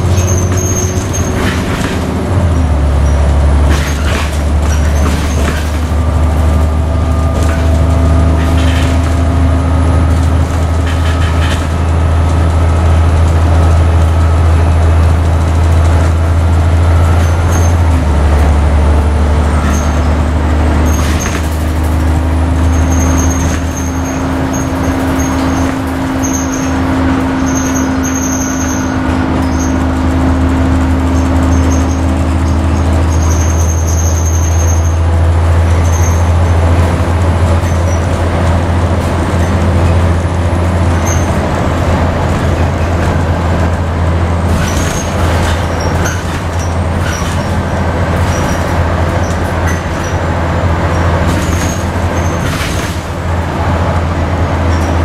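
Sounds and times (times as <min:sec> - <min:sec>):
bodywork squeaky rattles: 0:00.0 - 0:55.0
bus diesel engine drone: 0:00.0 - 0:55.0.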